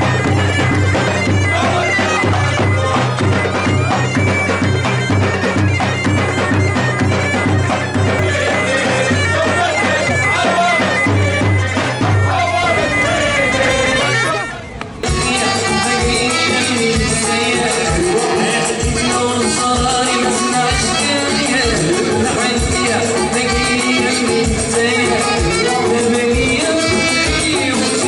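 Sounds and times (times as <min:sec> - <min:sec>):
droning wind instrument: 0:00.0 - 0:28.0.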